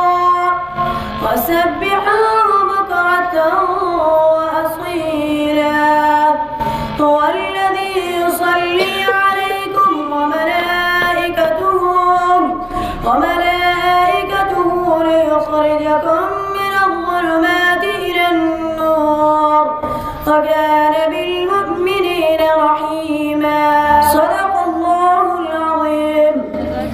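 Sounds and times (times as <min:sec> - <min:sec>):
boy reciting in melodic chant: 0:00.0 - 0:26.9.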